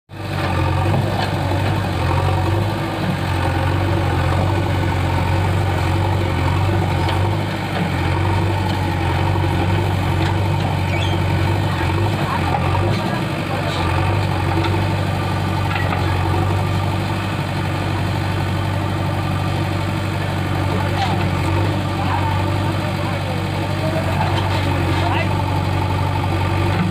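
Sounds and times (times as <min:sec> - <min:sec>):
diesel engine running steadily: 0:00.1 - 0:26.9.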